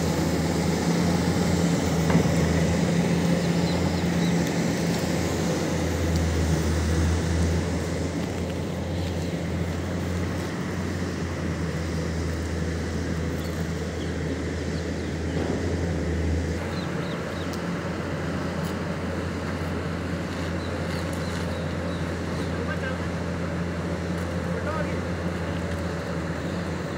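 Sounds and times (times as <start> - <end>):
heavy diesel machinery running: 0.0 - 26.9.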